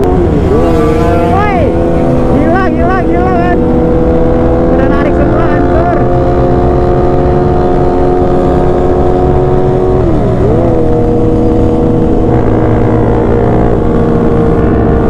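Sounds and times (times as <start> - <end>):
motorcycle engine running: 0.0 - 15.0
wind rush: 0.0 - 15.0.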